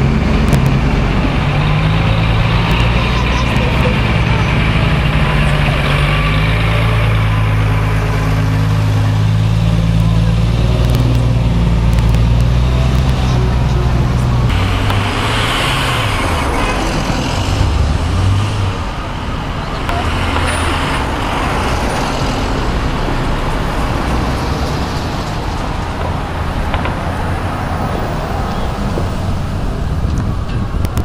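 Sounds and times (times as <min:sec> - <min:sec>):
vehicle engines and tyre noise: 0:00.0 - 0:31.0.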